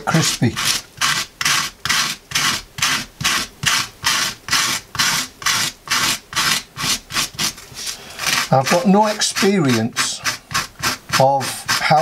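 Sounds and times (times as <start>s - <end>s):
scraper rasping on dried skin: 0.0s - 12.0s.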